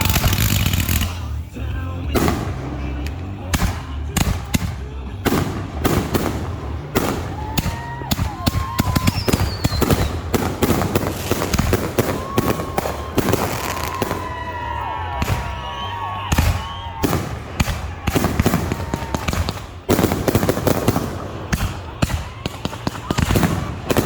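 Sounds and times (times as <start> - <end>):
fireworks whistles: 0.0 - 1.5, 2.1 - 24.0
fireworks bangs: 0.0 - 24.0
fireworks crackling and popping: 0.0 - 24.0.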